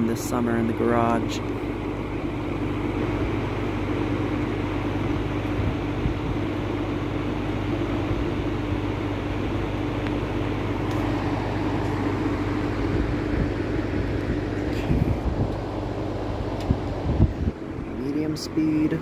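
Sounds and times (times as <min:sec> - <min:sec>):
box fan running: 0:00.0 - 0:19.0.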